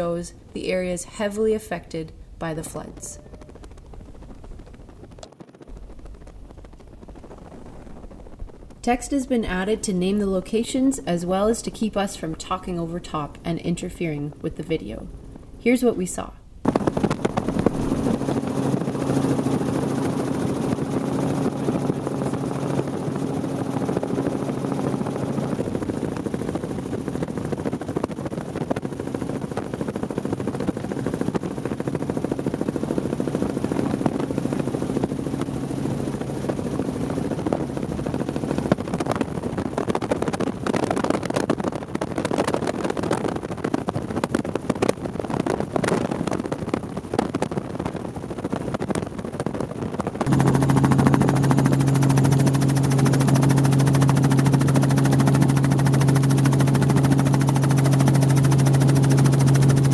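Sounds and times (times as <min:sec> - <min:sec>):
helicopter engine and rotor: 0:01.9 - 0:13.4, 0:16.6 - 0:59.9.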